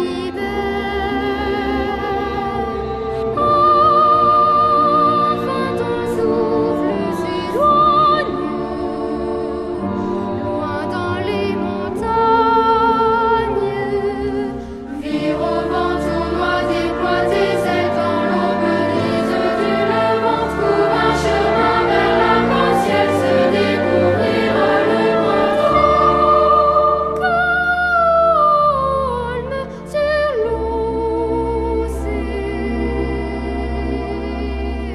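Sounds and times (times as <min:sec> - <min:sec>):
choir singing with orchestra: 0:00.0 - 0:34.9.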